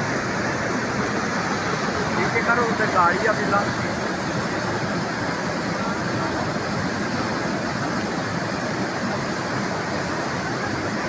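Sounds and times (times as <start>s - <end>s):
flood water rushing: 0.0s - 11.0s.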